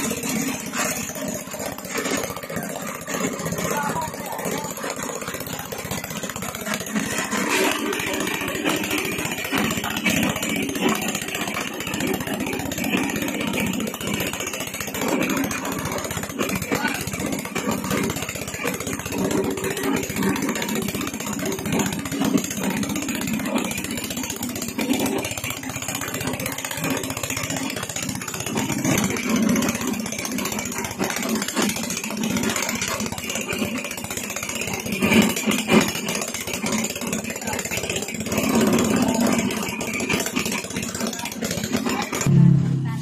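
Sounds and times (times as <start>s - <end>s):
ice crusher motor and drum knocking: 0.0s - 43.0s.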